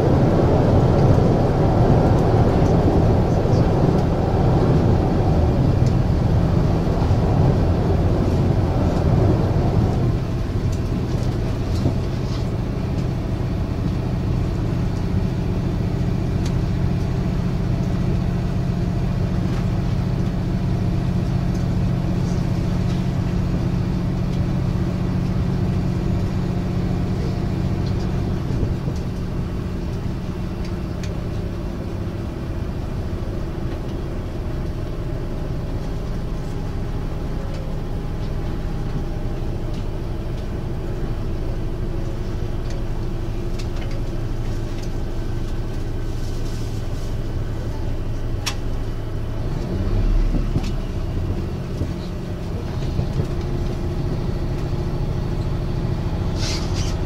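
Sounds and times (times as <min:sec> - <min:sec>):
diesel engine droning: 0:00.0 - 0:57.0
rumble of wheels on track: 0:00.0 - 0:57.0.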